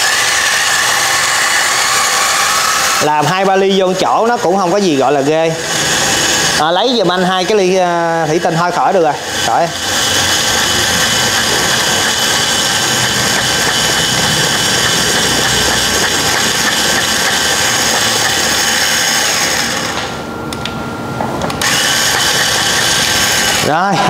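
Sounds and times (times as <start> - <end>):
coffee grinder motor running: 0.0 - 20.2, 21.6 - 24.0.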